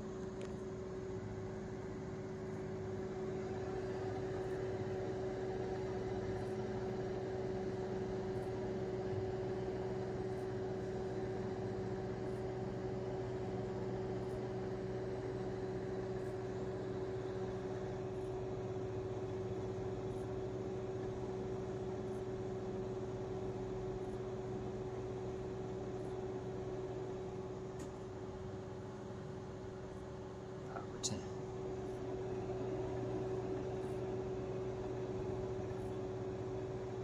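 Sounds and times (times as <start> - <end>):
microwave oven humming: 0.0 - 37.0.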